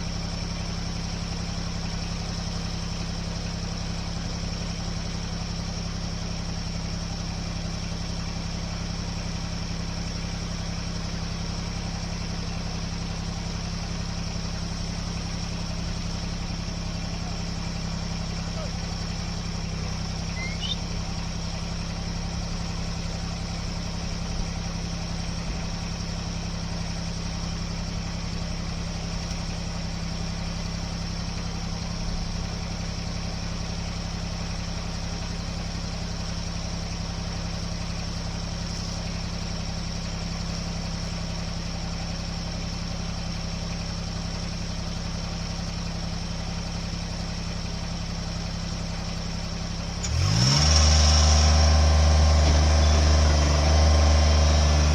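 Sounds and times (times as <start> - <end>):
loader engine idling: 0.0 - 54.9.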